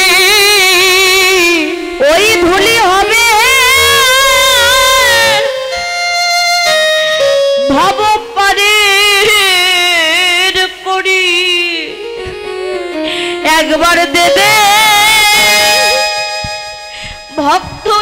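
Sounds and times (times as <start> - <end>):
woman singing into a microphone: 0.0 - 5.8, 7.6 - 18.0
instrumental accompaniment: 0.0 - 18.0.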